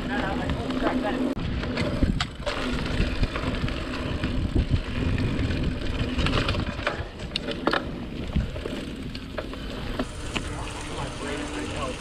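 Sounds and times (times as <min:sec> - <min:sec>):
bike rattling clicks and knocks: 0:00.0 - 0:12.0
bike tyres rumbling on dirt: 0:00.0 - 0:12.0.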